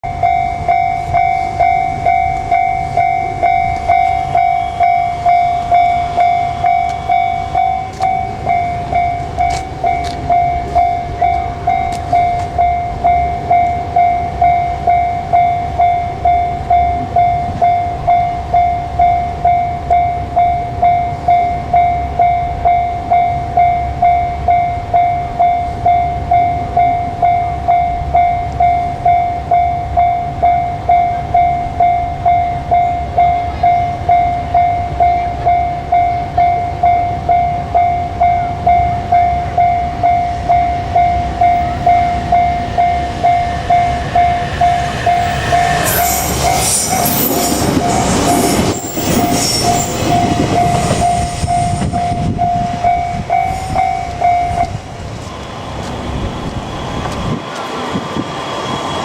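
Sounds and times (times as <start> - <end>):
level crossing alarm dinging: 0.0 - 57.6
low rumble of train: 0.0 - 59.0.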